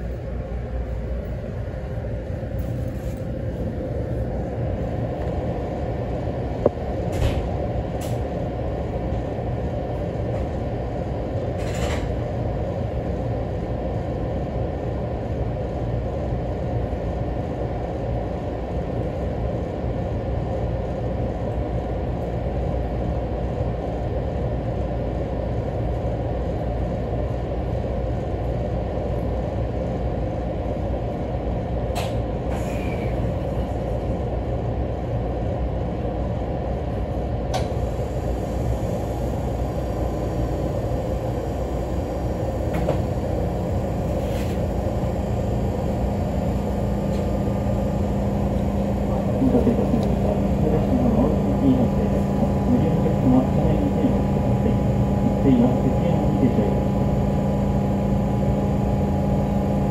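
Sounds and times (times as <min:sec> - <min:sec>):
low hum of train equipment: 0:00.0 - 0:59.9.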